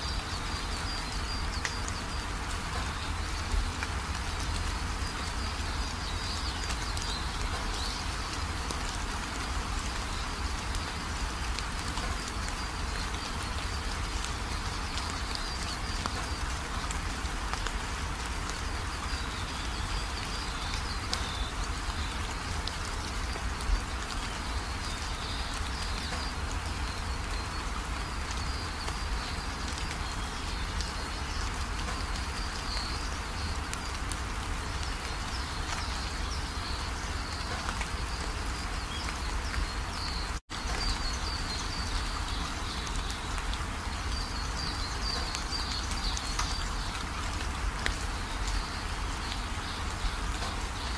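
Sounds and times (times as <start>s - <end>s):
forest ambience hiss: 0.0s - 50.9s.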